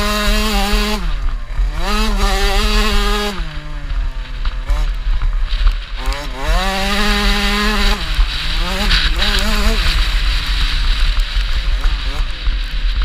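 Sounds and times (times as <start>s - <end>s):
motocross bike engine revving: 0.0s - 13.0s
wind rumble on microphone: 0.0s - 13.0s.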